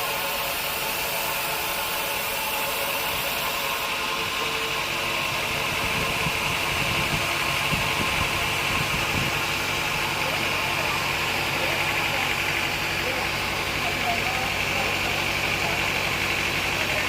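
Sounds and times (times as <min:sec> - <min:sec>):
band saw and motor running: 0:00.0 - 0:17.0.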